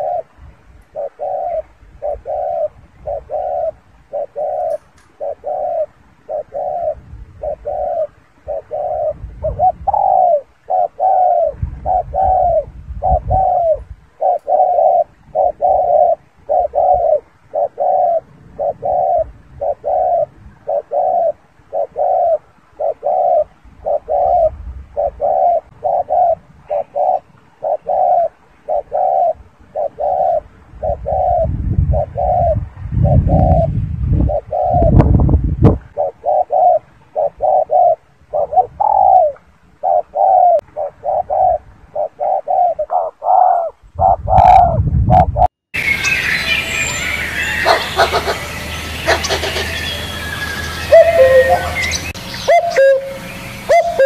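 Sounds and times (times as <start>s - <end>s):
dove cooing: 0.0s - 35.2s, 35.8s - 45.5s, 47.5s - 50.2s, 50.8s - 54.0s.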